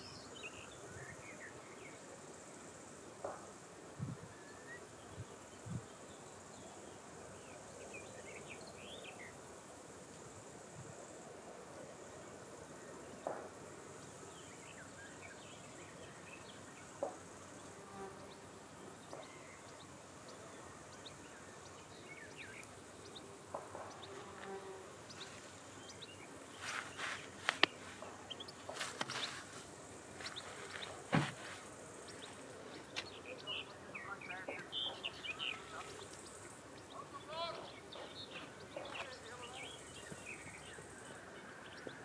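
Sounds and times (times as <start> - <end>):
high hiss: 0.0 - 37.9.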